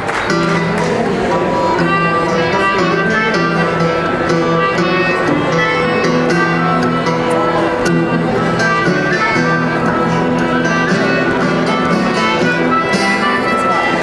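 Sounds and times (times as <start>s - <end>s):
folk band dance tune: 0.0s - 14.0s.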